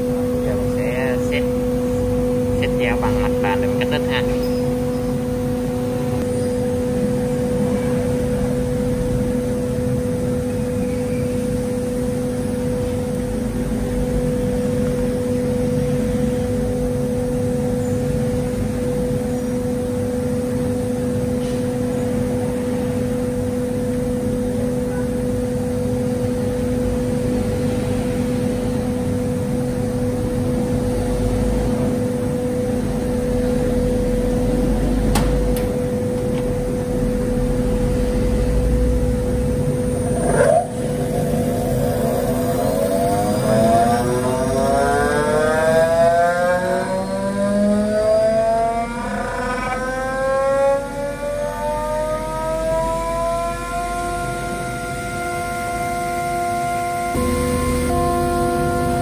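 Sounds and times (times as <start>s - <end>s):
machinery humming with low whine: 0.0s - 59.0s.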